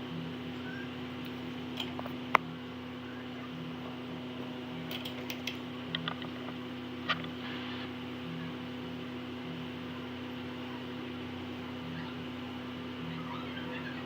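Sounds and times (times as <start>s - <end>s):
bench equipment hum: 0.0s - 14.0s.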